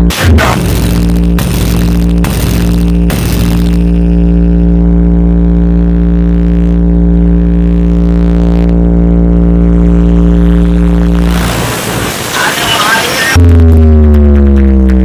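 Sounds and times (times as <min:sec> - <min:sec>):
loud droning tone from speakers: 0:00.0 - 0:15.0.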